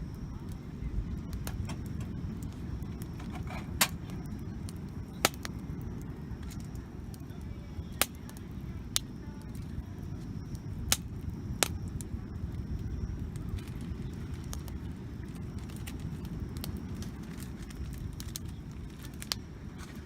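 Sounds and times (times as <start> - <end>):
campfire crackling pops: 0.0 - 20.0
low fire rumble: 0.0 - 20.0.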